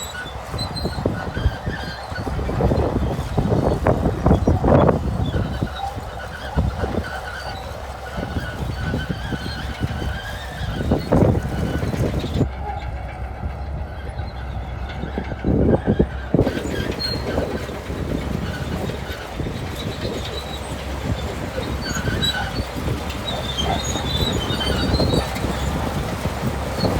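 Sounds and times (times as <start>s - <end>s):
diesel engine rumble: 0.0s - 26.9s
steel tracks squealing and clanking: 0.0s - 26.9s.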